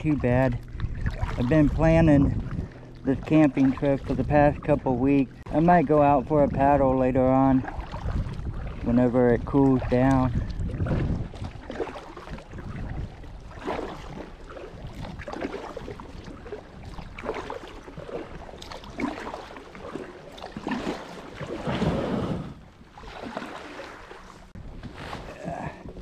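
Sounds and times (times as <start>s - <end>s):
wind rumble on microphone: 0.0s - 23.1s, 24.3s - 26.0s
paddle strokes splashing in water: 0.0s - 26.0s.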